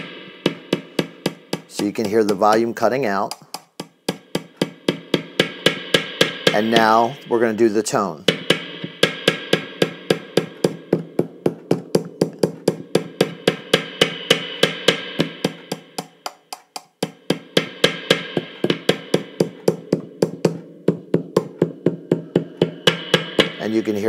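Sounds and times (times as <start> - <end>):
screwdriver tapping bass pickup: 0.0 - 23.9.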